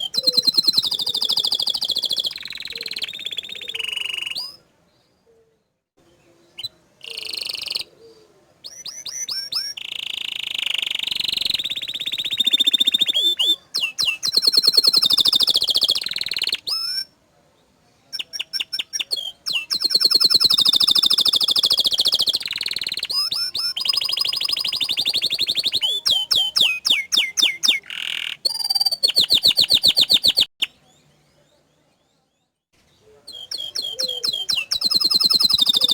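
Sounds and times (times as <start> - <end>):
canary singing trills: 0.0 - 17.1, 18.0 - 35.9.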